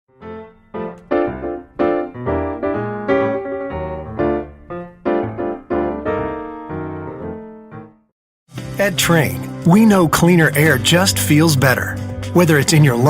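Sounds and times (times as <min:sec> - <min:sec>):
piano chords and notes: 0:00.1 - 0:13.0.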